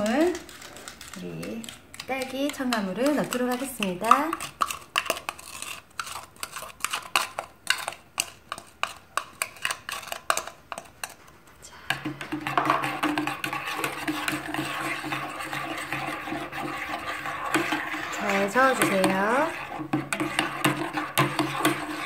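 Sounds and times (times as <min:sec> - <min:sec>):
metal spatula scraping cup: 0:00.0 - 0:11.2, 0:11.9 - 0:22.0
stirring swish in pot: 0:00.0 - 0:22.0.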